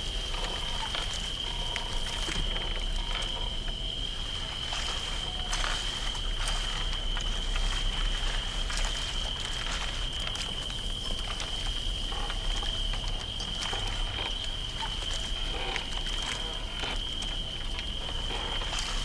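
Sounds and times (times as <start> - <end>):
constant low rumble: 0.0 - 19.0
crackles and clicks: 0.0 - 19.0
crickets droning: 0.0 - 19.0.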